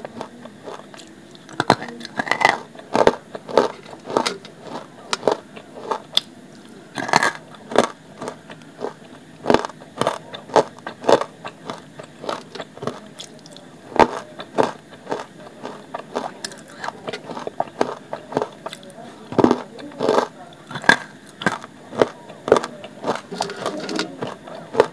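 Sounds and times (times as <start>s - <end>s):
crunchy chewing: 0.0s - 24.9s.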